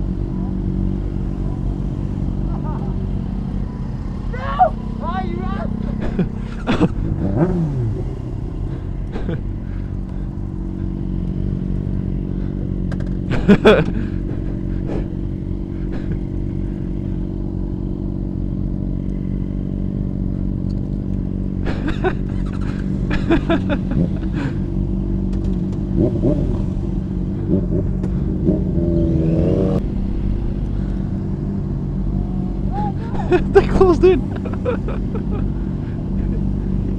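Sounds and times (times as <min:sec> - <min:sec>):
motorcycle engines idling: 0:00.0 - 0:36.9.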